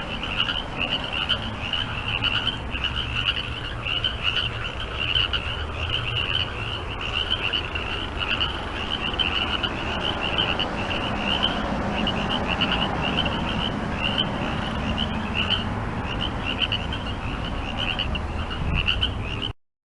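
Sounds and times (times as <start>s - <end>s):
chorus of frogs croaking: 0.0s - 19.5s.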